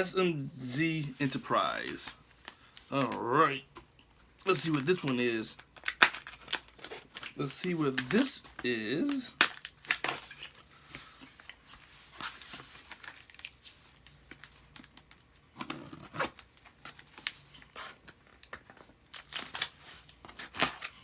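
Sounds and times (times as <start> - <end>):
packaging tearing and crinkling: 1.2 - 3.3, 4.5 - 10.7, 11.4 - 21.0.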